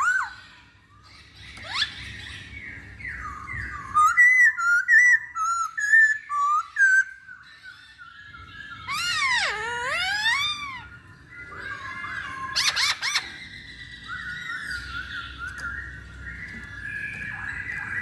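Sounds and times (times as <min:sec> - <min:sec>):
bird singing whistled notes: 0:00.0 - 0:18.0.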